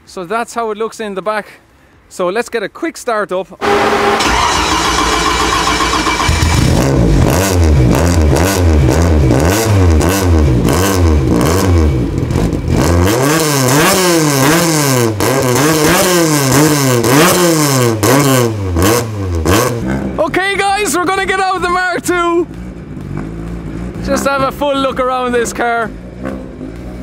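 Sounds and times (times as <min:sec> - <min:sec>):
car engine revving: 0:03.6 - 0:27.0.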